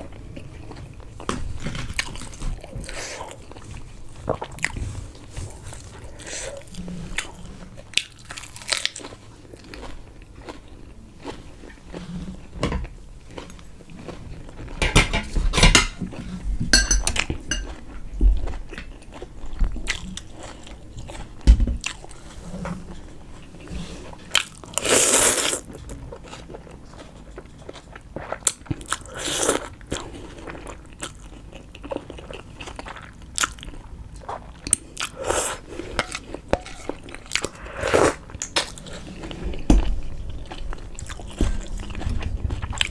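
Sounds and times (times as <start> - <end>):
person chewing crunchy food: 0.1 - 14.8, 16.0 - 42.9.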